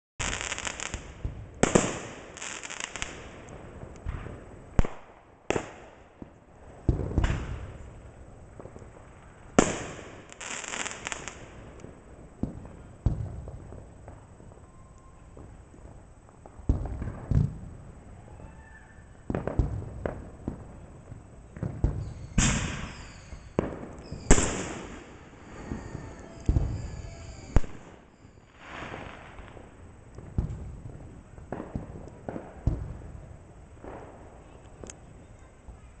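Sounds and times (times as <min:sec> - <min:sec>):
fireworks bangs: 0:00.2 - 0:36.0
high hiss of fireworks: 0:00.2 - 0:36.0.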